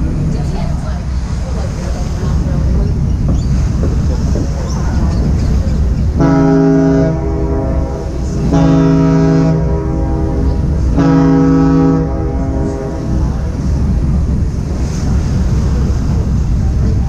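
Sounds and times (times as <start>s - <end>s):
ship engine rumble: 0.0s - 17.0s
water: 0.0s - 17.0s
deep ship's horn blasts: 2.0s - 17.0s.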